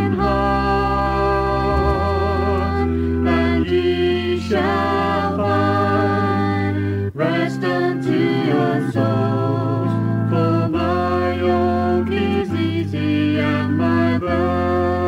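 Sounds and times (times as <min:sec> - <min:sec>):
worship song music: 0:00.0 - 0:15.0.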